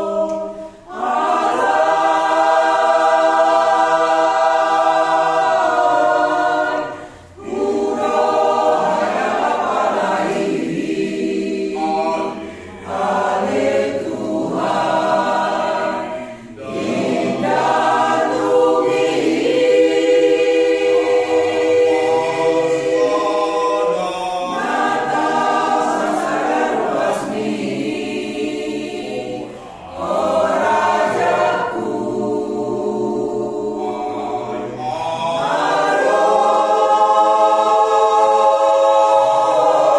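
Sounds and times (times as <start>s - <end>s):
mixed choir singing unaccompanied: 0.0s - 39.9s.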